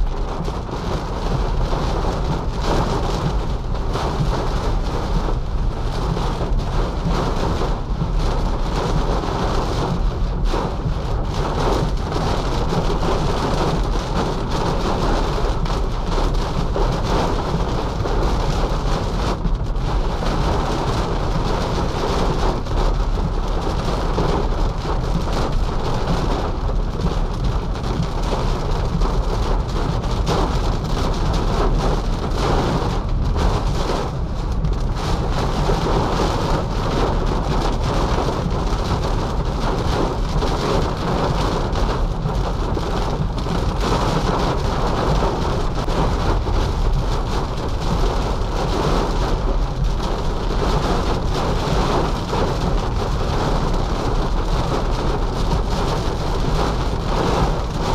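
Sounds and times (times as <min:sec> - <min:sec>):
heavy rain drumming on car: 0:00.0 - 0:57.9.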